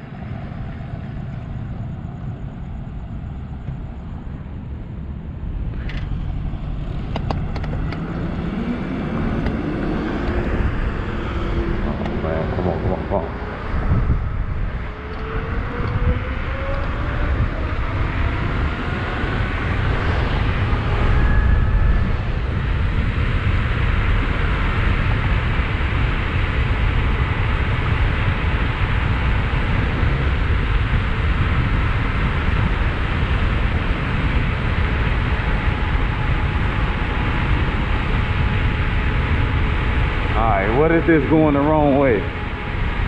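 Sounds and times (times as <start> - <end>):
wind on microphone: 0.0 - 43.0
electric motor whine: 5.6 - 43.0.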